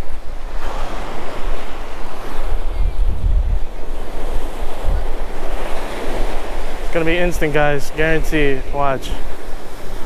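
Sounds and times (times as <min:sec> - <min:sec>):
ocean surf on beach: 0:00.0 - 0:10.0
wind buffeting microphone: 0:00.0 - 0:10.0.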